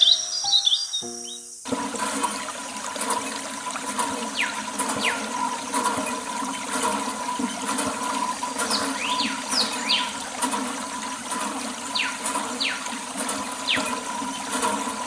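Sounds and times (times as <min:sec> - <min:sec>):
water running and splashing: 0:01.6 - 0:15.0.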